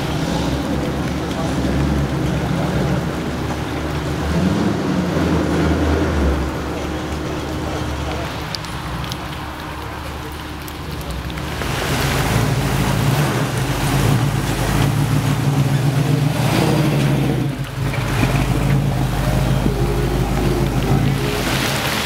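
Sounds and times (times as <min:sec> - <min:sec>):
rain hiss: 0:00.0 - 0:22.0
vehicle engine rumbling: 0:00.0 - 0:22.0.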